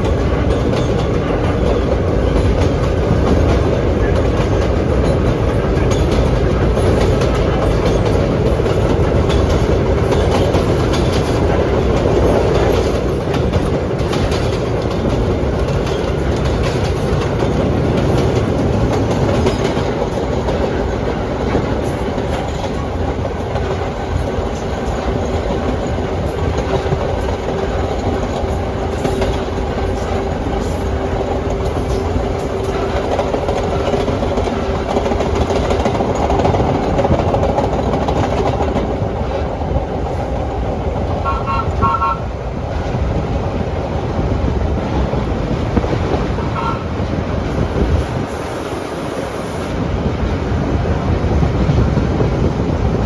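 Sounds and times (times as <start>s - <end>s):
subway train rumbling: 0.0s - 53.0s
wheels clacking over rail joints: 0.0s - 53.0s.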